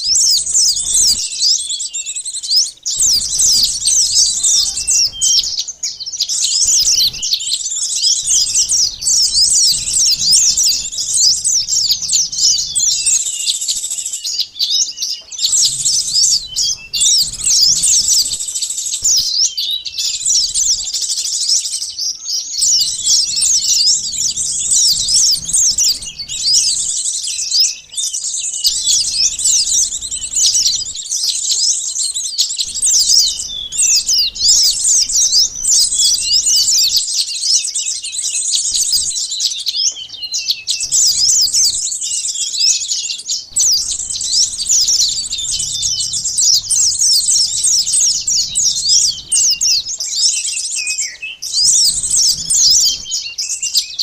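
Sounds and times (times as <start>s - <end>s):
small birds chirping and trilling: 0.0s - 54.0s.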